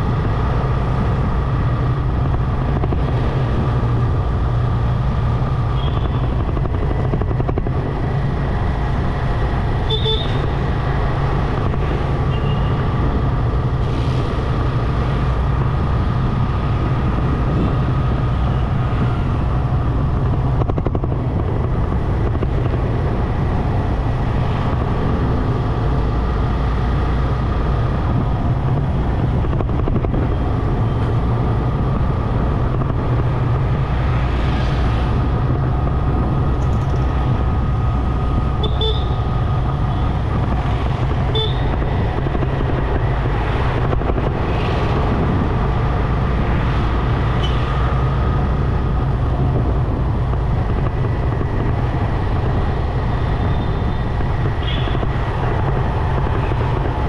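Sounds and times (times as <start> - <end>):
motorcycle engine rumbling: 0.0 - 57.0
street traffic: 0.0 - 57.0
wind on microphone: 0.0 - 57.0.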